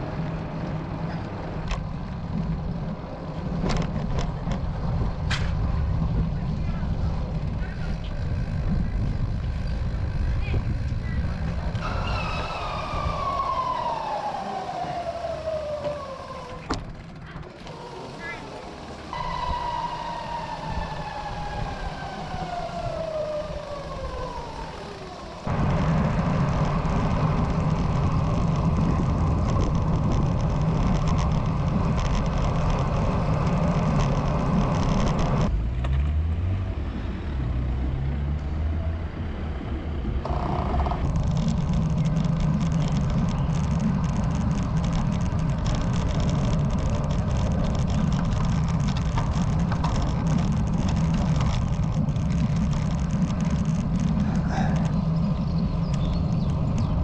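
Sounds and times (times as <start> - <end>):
tyre and road noise: 0.0 - 57.0
wind on microphone: 1.6 - 17.2, 17.8 - 35.5, 40.0 - 57.0
low hum rising in pitch: 4.5 - 57.0.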